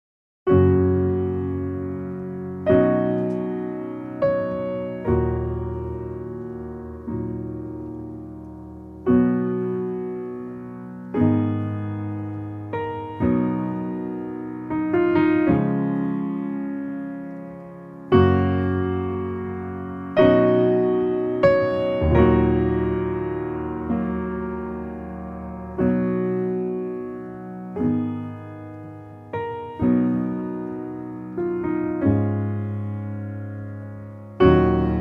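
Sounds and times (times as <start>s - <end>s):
slow solo piano chords: 0.5s - 35.0s.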